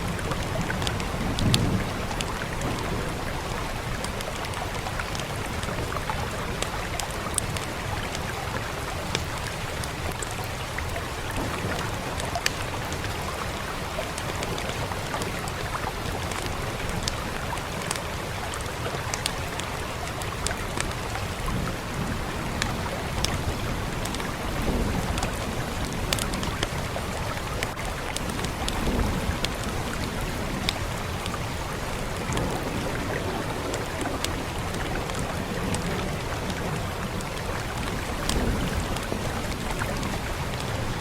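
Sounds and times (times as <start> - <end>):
steady rain falling: 0.0 - 41.0
wood fire crackling and popping: 0.1 - 40.9.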